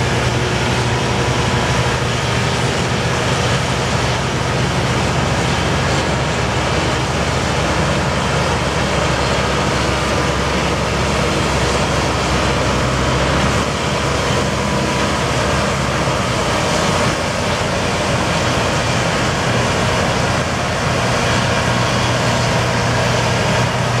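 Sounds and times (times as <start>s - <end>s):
combine harvester engine drone: 0.0s - 24.0s
rush of machinery noise: 0.0s - 24.0s.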